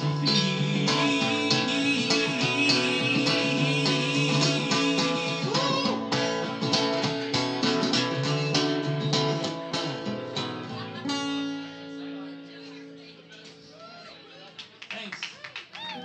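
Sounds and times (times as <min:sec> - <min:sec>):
acoustic guitar strumming and plucking: 0:00.0 - 0:13.7.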